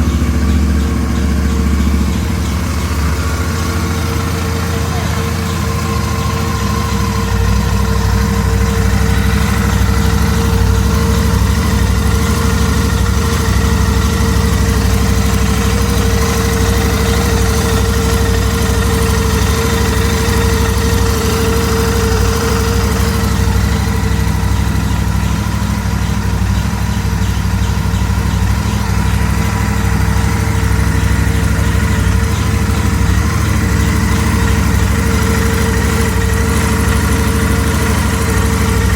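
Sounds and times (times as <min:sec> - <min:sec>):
motorcycle engine idling: 0:00.0 - 0:38.9
steady engine howl: 0:00.0 - 0:38.9.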